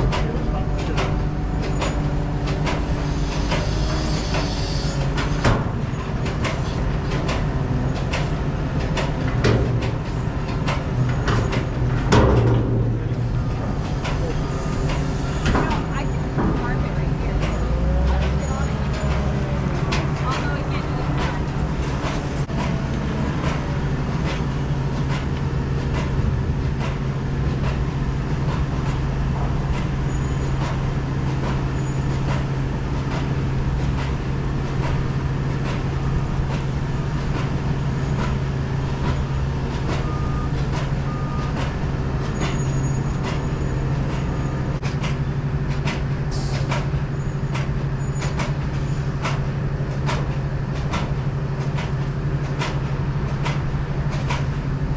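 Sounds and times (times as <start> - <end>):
road noise: 0.0 - 54.9
truck engine drone: 0.0 - 54.9.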